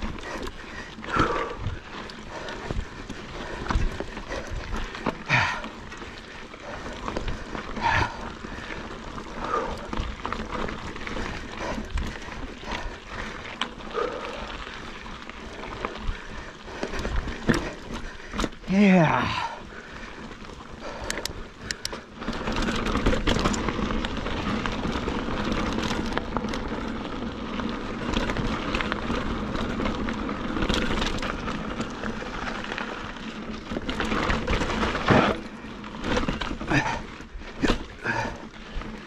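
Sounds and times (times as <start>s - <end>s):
bike rattling over rocks: 0.0s - 39.0s
tyre noise and wind: 0.0s - 39.0s.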